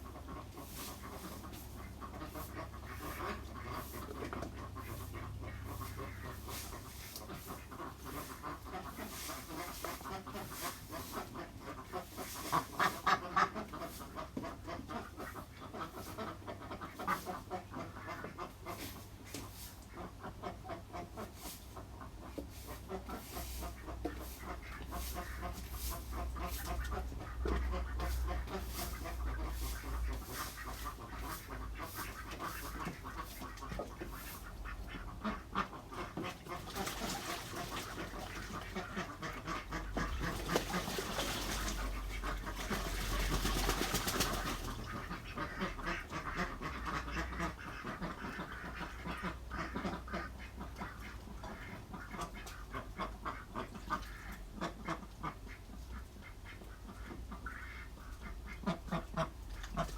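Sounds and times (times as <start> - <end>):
ducks quacking: 0.0 - 59.9.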